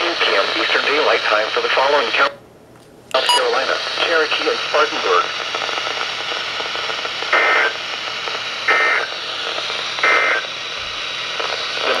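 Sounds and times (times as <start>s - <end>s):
radio hiss: 0.0s - 2.4s, 3.1s - 12.0s.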